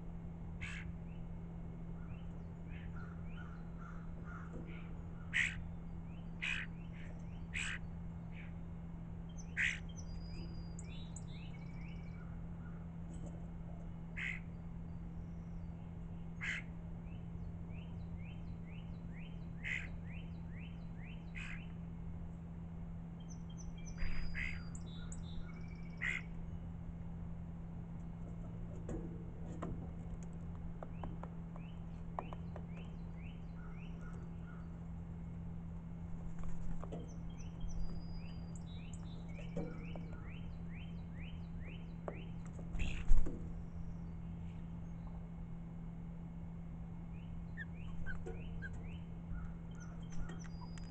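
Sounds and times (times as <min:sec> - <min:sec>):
songbirds chirping: 0:00.0 - 0:50.9
steady low hum: 0:00.0 - 0:50.9
harsh bird calls: 0:00.5 - 0:21.9, 0:23.0 - 0:26.8, 0:30.8 - 0:35.6, 0:36.4 - 0:50.9.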